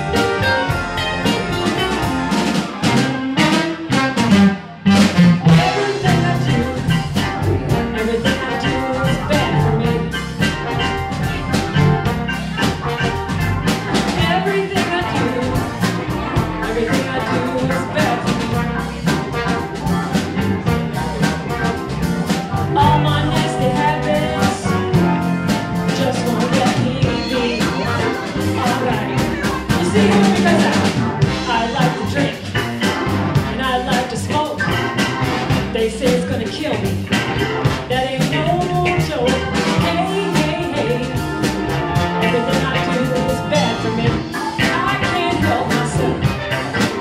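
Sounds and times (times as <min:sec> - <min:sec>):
bass: 0:00.0 - 0:47.0
drum kit beat: 0:00.0 - 0:47.0
electric guitar: 0:00.0 - 0:47.0
hammond organ: 0:00.0 - 0:47.0
trombone: 0:00.0 - 0:47.0.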